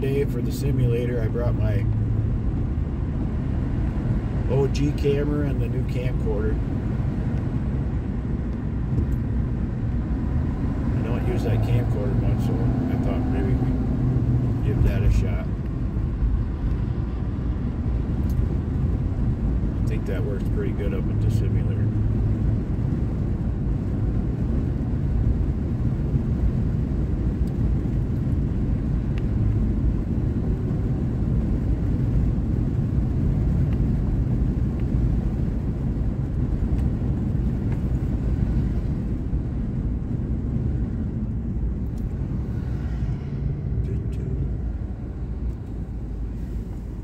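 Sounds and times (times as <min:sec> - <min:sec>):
truck engine and tyre rumble: 0:00.0 - 0:47.0.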